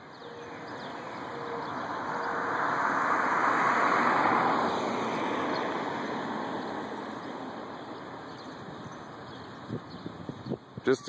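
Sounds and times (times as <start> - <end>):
vehicle passing by: 0.3 - 9.3.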